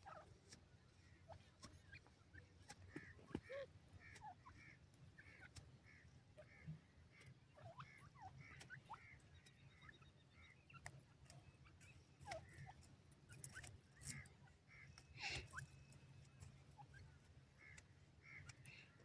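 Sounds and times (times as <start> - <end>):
bird chirping calls: 0.0 - 19.0.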